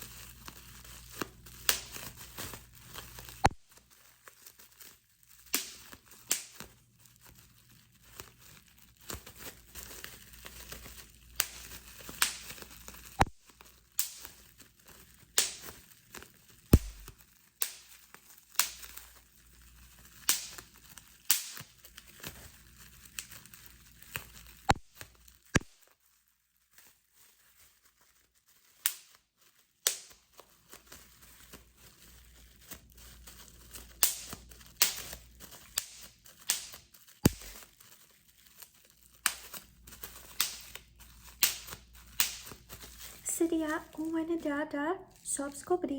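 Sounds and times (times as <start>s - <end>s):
bubble wrap popping: 0.0s - 45.9s
plastic crinkling: 0.0s - 45.9s.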